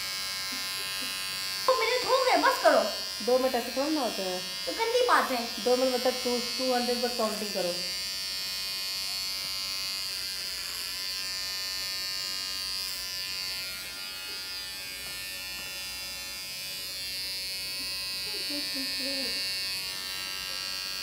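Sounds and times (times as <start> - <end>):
electric hair trimmer buzzing: 0.0 - 21.0.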